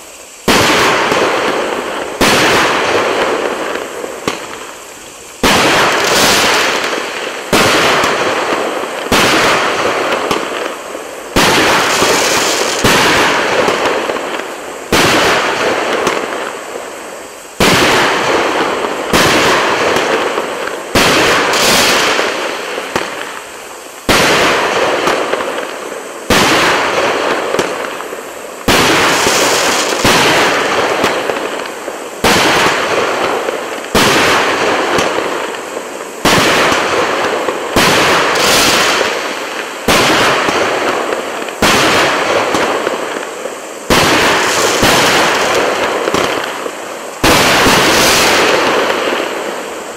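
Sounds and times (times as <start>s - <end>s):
firework shots crackling: 0.0s - 49.9s.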